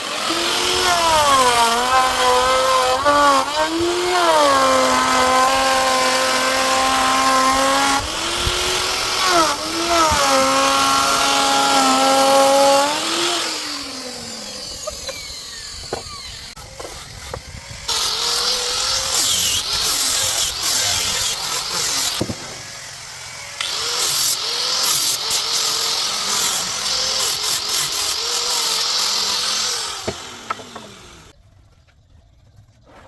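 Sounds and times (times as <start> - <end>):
electric power tool cutting wood: 0.0 - 31.3.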